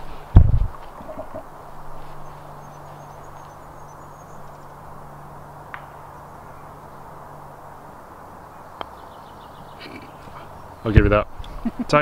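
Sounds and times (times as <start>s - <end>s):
steady low hum: 0.0s - 12.0s
wind-like noise: 0.0s - 12.0s.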